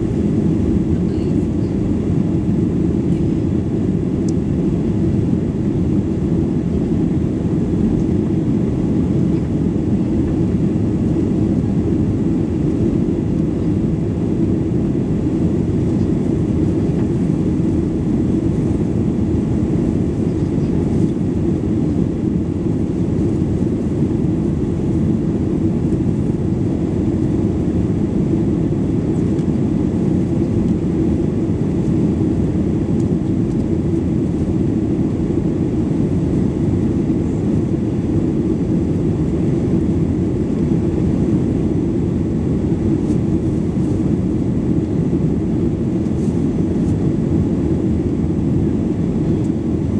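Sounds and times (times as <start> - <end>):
airplane cabin low rumble: 0.0 - 49.9.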